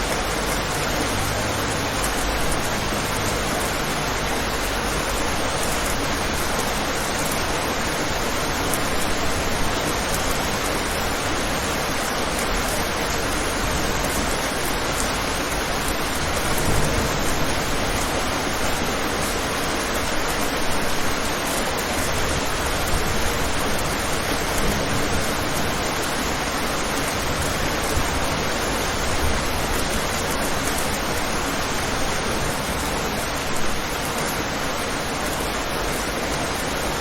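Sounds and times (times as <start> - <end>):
rain on a window: 0.0 - 37.0.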